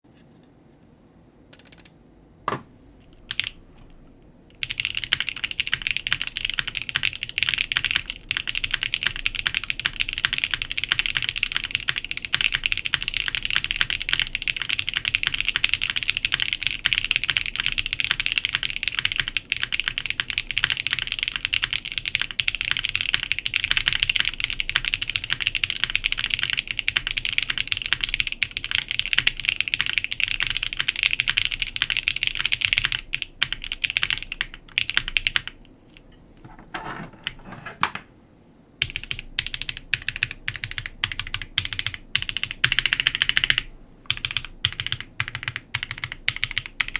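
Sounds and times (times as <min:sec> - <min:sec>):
mechanical keyboard typing: 0:01.6 - 0:02.0, 0:03.3 - 0:03.6, 0:04.6 - 0:35.6, 0:36.7 - 0:38.0, 0:38.8 - 0:46.9.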